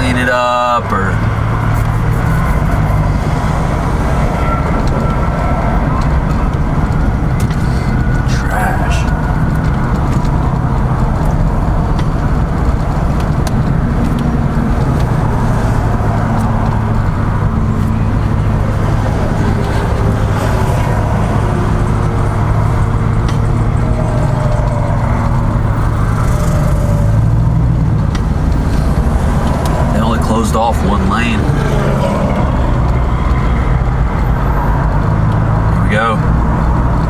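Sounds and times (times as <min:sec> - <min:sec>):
vehicle engine drone from inside: 0:00.0 - 0:37.0.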